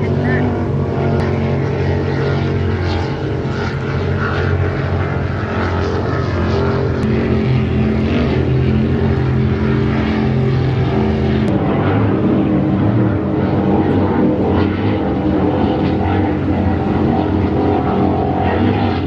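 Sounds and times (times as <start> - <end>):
powerboat engines at high speed: 0.0 - 19.0.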